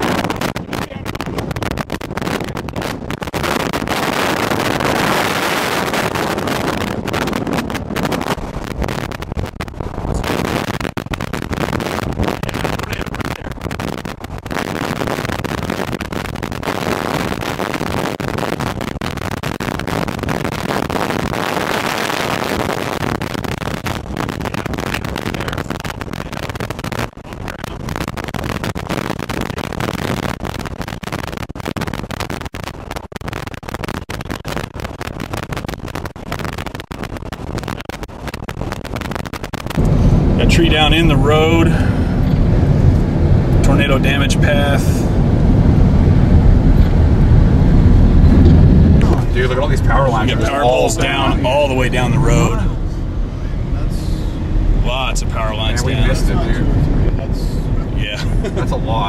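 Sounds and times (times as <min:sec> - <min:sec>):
storm wind buffeting microphone: 0:00.0 - 0:59.0.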